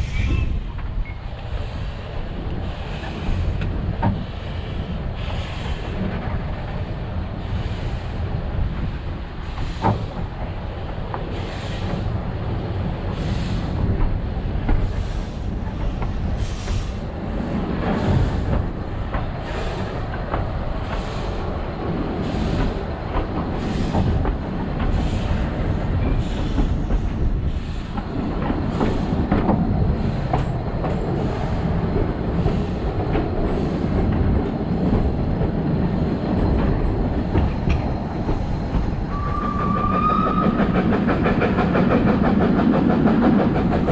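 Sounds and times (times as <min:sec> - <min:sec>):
steam train running: 0:00.0 - 0:43.9.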